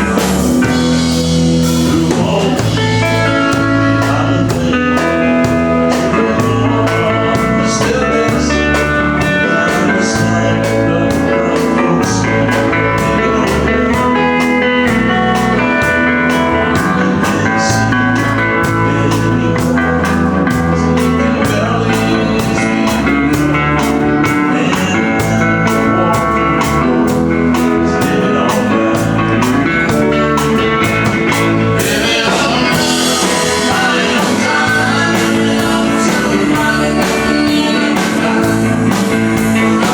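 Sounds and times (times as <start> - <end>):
bass: 0.0 - 39.9
guitar: 0.0 - 39.9
steady drum beat: 0.0 - 39.9.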